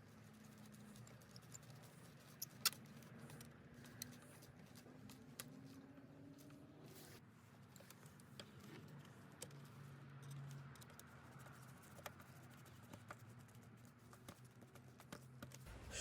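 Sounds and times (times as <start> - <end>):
small parts clicking and tapping: 0.0 - 5.7, 7.6 - 15.7.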